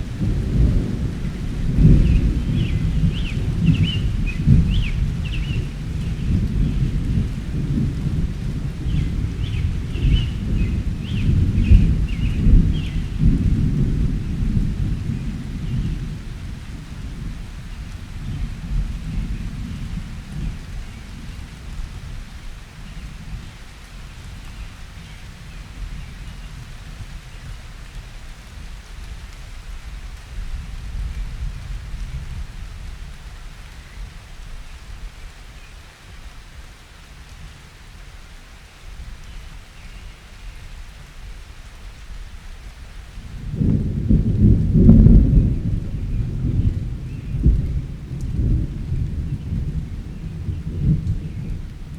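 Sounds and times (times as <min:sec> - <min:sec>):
thunder rumbling: 0:00.0 - 0:35.2, 0:43.0 - 0:51.9
steady rain falling: 0:00.0 - 0:51.9.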